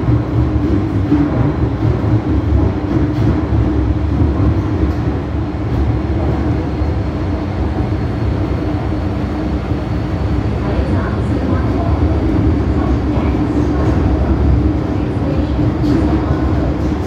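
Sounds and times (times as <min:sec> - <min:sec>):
constant low hum: 0:00.0 - 0:17.0
train wheels rumbling: 0:00.0 - 0:17.0.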